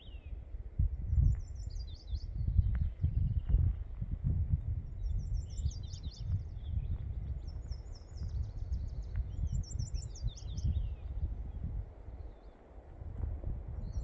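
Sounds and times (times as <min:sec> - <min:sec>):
songbird singing: 0:00.0 - 0:14.0
wind buffeting microphone: 0:00.0 - 0:14.0.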